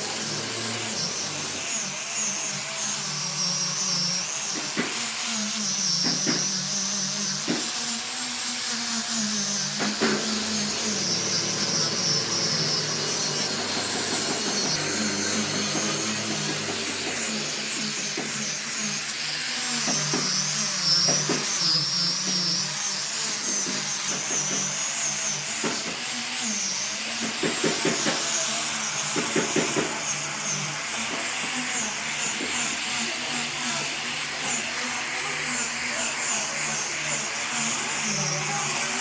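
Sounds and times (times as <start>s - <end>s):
power tool running: 0.0s - 39.0s.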